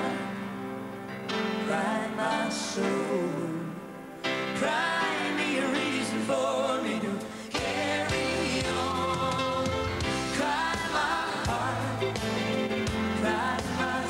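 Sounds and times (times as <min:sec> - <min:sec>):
live pop ballad by band: 0:00.0 - 0:14.0
man and woman singing duet: 0:01.6 - 0:14.0.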